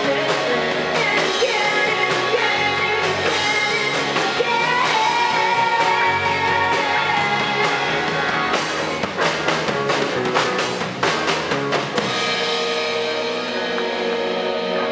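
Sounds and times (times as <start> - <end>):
rock band playing: 0.0 - 14.9.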